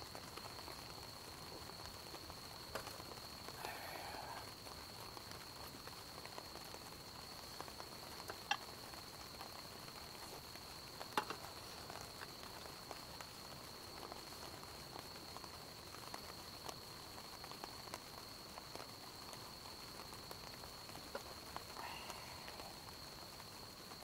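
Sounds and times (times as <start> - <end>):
campfire crackling and popping: 0.0 - 24.0
faint high-pitched whine: 0.0 - 24.0.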